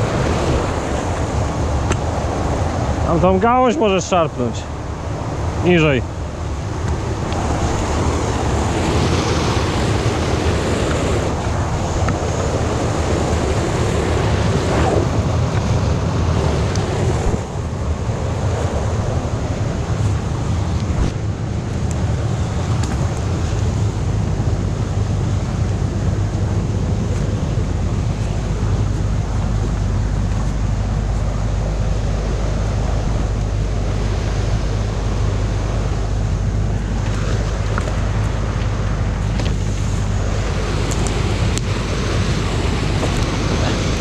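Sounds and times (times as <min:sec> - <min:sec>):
water rushing over a weir: 0:00.0 - 0:44.0.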